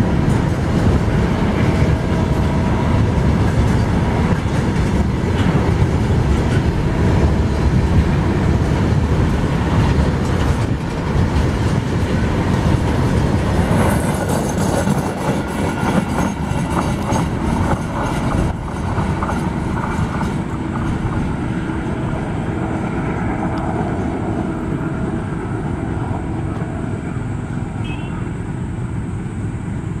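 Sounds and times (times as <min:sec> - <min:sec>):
train wheels clattering on rails: 0:00.0 - 0:27.7.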